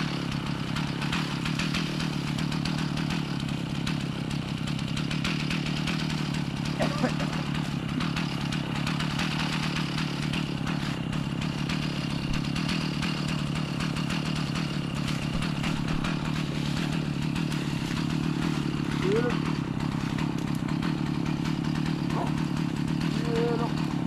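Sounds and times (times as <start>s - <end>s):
chainsaw engine running: 0.0s - 24.0s.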